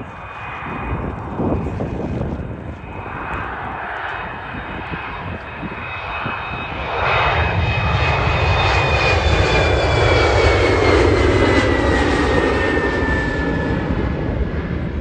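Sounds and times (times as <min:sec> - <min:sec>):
airliner engine roar: 0:00.0 - 0:15.0
wind buffeting microphone: 0:00.0 - 0:15.0.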